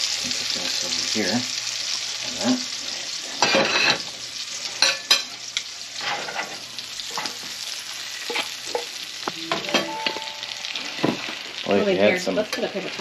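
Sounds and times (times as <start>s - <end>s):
shrimp sizzling in frying pan: 0.0s - 13.0s.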